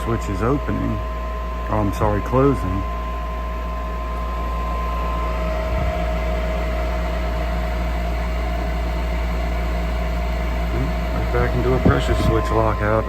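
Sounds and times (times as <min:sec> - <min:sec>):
furnace inducer motor humming: 0:00.0 - 0:13.0.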